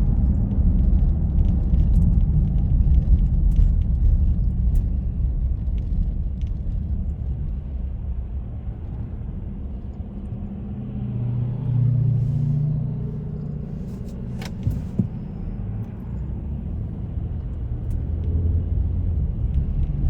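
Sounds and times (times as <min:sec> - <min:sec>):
low engine hum: 0:00.0 - 0:20.0
vehicle rumbling on road: 0:00.0 - 0:20.0.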